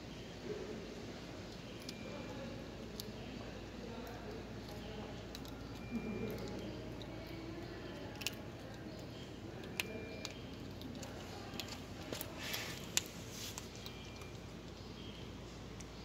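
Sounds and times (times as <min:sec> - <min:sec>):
kitten crunching fish bones: 0:01.4 - 0:14.9.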